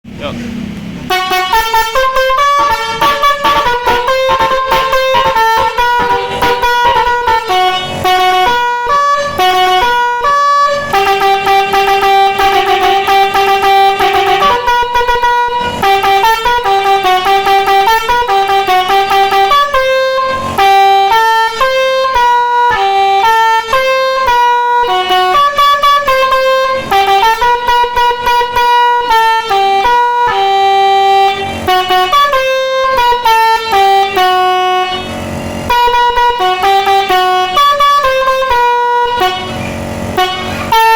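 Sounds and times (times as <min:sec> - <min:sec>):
bus air horn melodies: 0:01.0 - 0:40.9.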